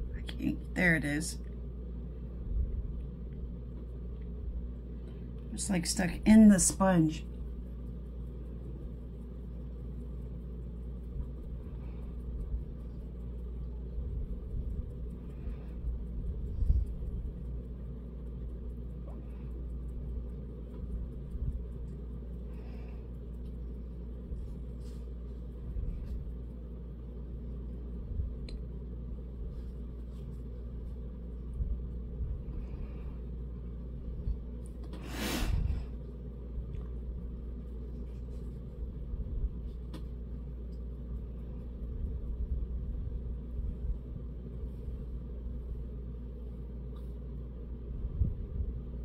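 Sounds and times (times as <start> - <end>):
low background rumble: 0.0 - 49.0.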